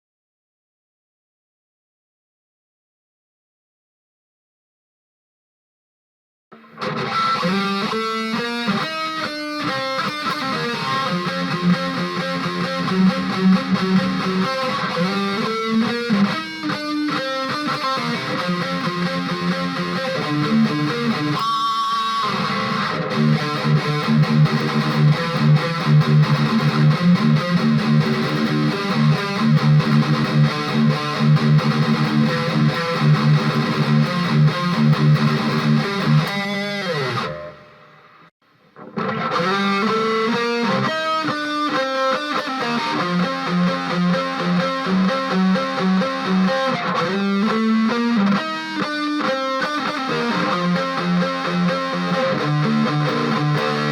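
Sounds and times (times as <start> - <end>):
distorted electric guitar riffs: 6.5 - 53.9.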